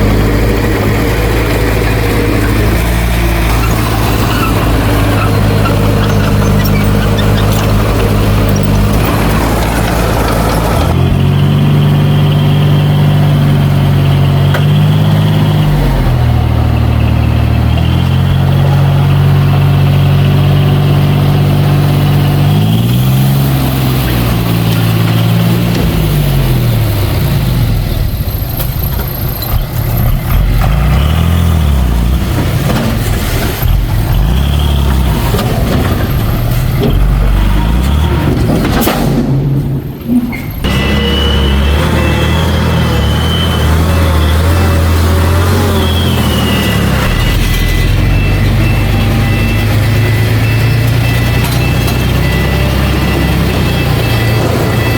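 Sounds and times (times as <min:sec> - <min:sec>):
diesel engine revving under load: 0:00.0 - 0:54.9.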